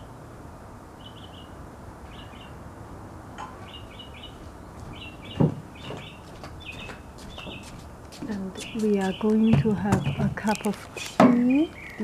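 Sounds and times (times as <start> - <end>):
low background noise: 0.0 - 12.0
bird chirping: 1.0 - 2.6, 3.4 - 12.0.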